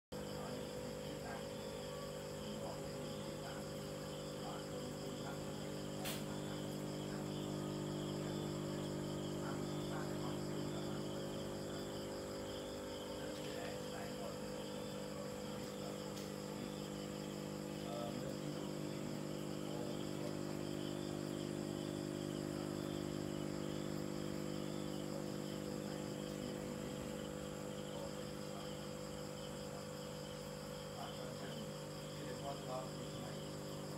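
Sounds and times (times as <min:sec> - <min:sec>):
aquarium pump hum: 0:00.2 - 0:33.9.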